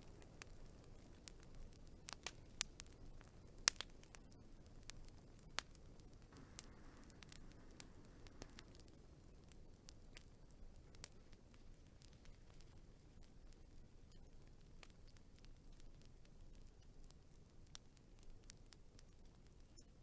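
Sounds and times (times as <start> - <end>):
faint low hiss: 0.0 - 20.0
wood fire crackling: 0.0 - 20.0.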